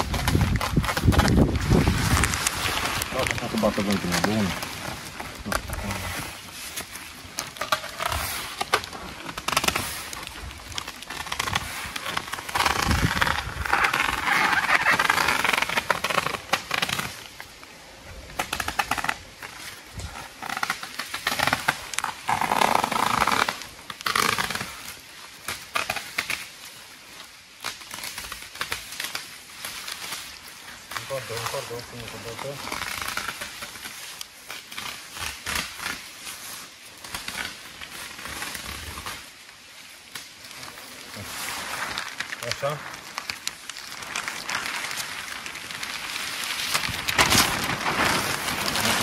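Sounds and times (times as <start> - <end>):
plastic sheeting crackling: 0.0 - 49.0.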